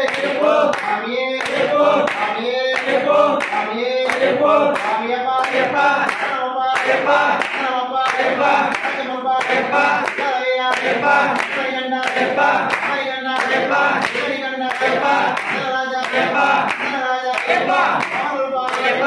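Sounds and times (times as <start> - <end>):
group singing in chorus: 0.0 - 19.0
hand claps keeping time: 0.0 - 19.0.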